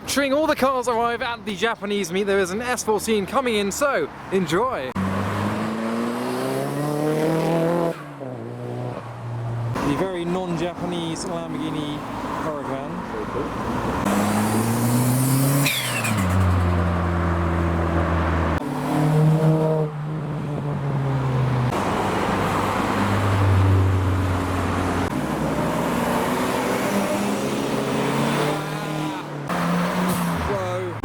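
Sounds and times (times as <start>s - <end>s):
cars revving past: 4.9s - 10.0s, 10.7s - 31.0s.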